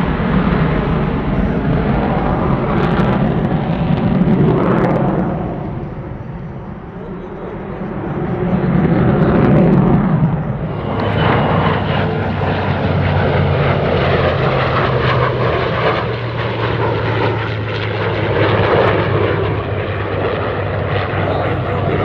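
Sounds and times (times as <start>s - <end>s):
fighter jet noise: 0.0s - 22.0s
propeller plane engine drone: 0.0s - 22.0s.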